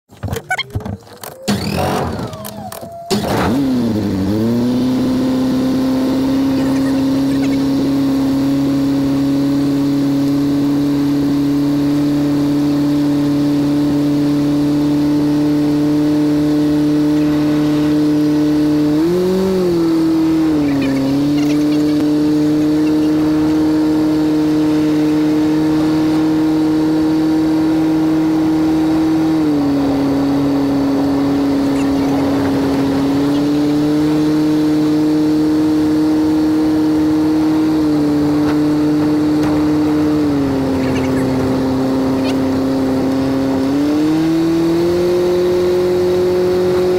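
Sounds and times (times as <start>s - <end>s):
light aircraft engine droning: 0.1s - 46.9s.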